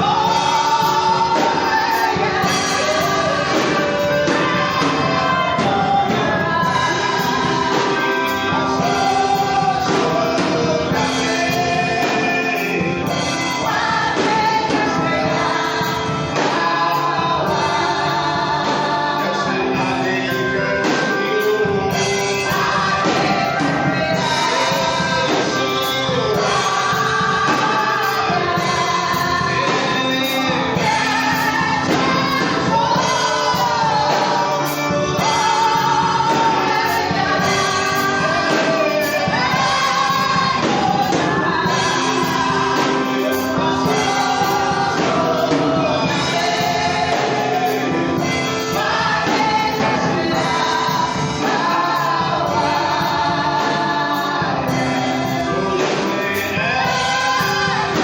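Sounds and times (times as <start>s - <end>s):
choir singing gospel with band: 0.0s - 58.0s.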